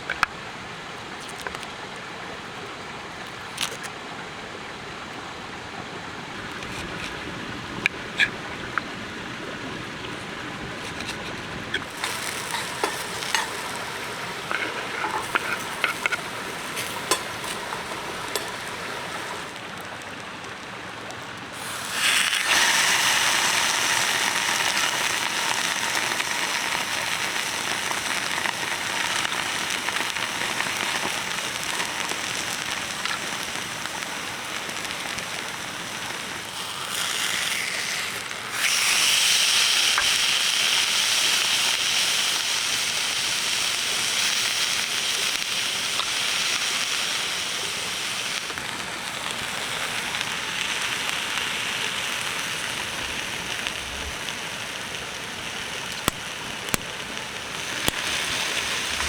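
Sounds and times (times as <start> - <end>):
food sizzling over fire: 6.3 - 20.0, 21.5 - 59.0
campfire crackling and popping: 6.3 - 20.7, 23.3 - 38.5, 39.9 - 59.0.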